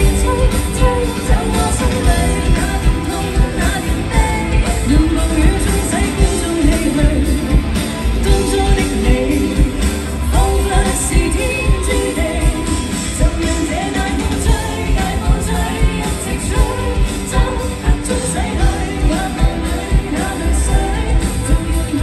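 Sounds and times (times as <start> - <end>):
pop-rock band playing: 0.0 - 22.0
women singing: 0.0 - 22.0.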